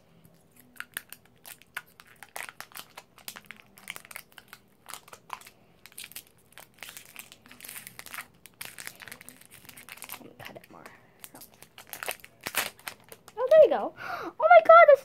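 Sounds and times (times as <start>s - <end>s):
plastic wrap crinkling: 0.3s - 13.8s.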